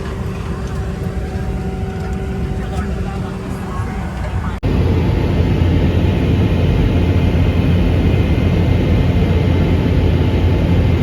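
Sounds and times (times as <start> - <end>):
jet cabin noise in flight: 0.0 - 11.0.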